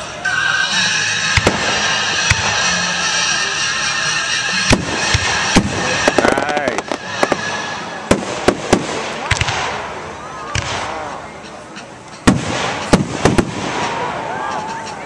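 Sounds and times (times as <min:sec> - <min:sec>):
fireworks bangs: 0:00.0 - 0:11.2, 0:12.2 - 0:15.0
crackling fireworks reports: 0:00.0 - 0:15.0.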